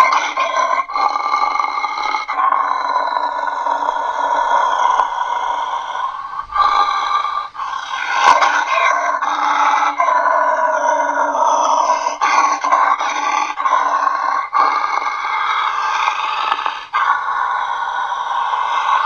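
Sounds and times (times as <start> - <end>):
person roaring through a tube: 0.0 - 19.0.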